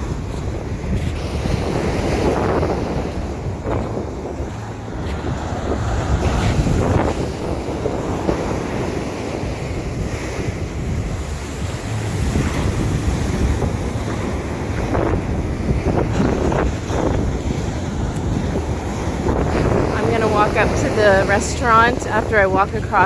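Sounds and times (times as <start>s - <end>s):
waves breaking on beach: 0.0s - 23.0s
wind buffeting microphone: 0.0s - 23.0s.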